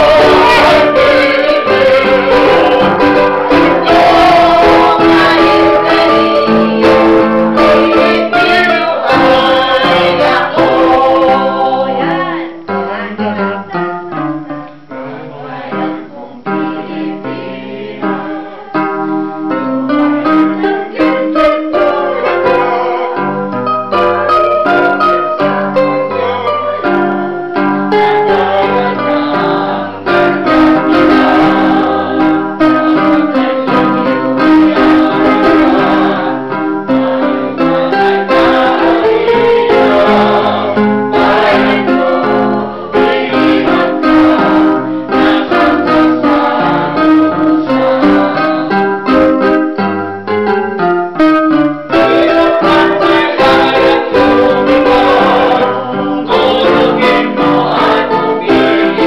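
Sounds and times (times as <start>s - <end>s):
group of people singing: 0.0s - 14.3s, 14.9s - 49.8s, 51.3s - 59.0s
electronic keyboard piano: 0.0s - 59.0s.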